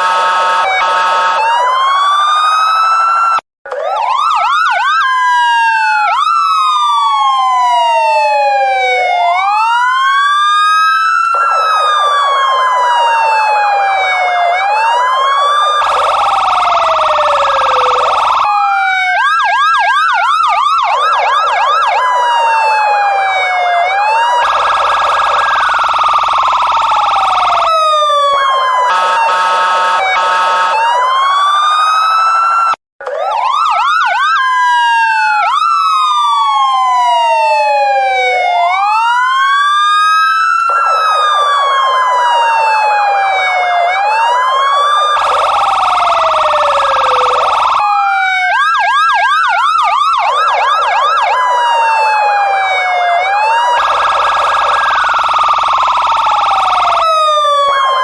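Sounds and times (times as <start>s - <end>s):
police car siren: 0.0s - 58.0s.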